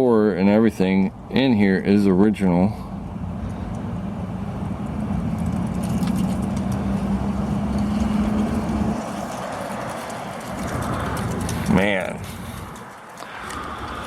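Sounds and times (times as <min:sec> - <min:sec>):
motor vehicle engine humming: 0:00.7 - 0:14.0.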